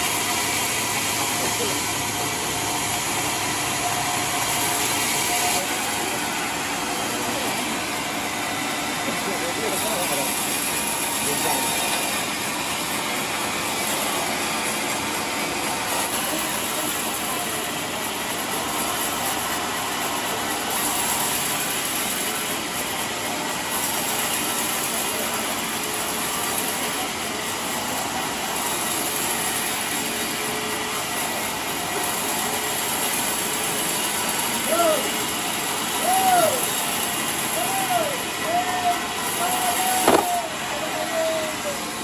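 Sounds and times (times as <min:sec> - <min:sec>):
band saw cutting log: 0:00.0 - 0:37.6, 0:39.0 - 0:42.0.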